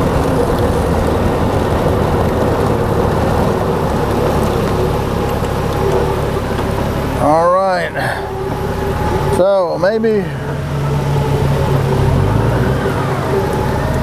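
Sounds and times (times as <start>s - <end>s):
motorcycle engine hum: 0.0s - 14.0s
wind and road noise: 0.0s - 14.0s.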